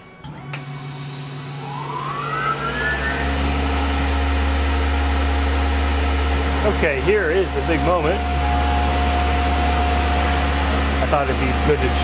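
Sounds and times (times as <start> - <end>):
milling machine spindle whine: 0.3 - 12.0.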